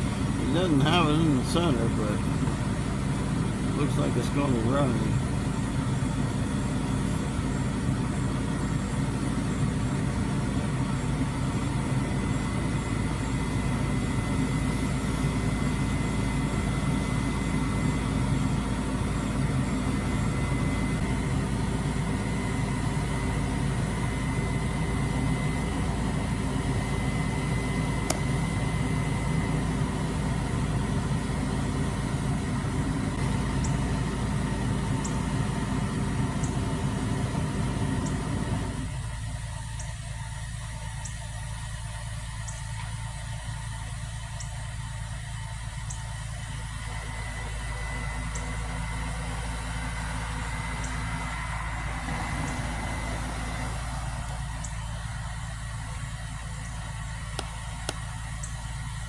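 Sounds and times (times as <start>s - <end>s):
faint high whine: 0.0s - 59.0s
truck engine running: 0.0s - 59.0s.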